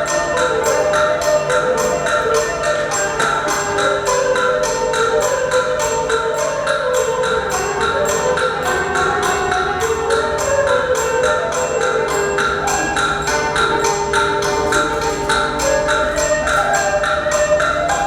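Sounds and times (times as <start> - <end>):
chime bells playing a melody: 0.0 - 18.0.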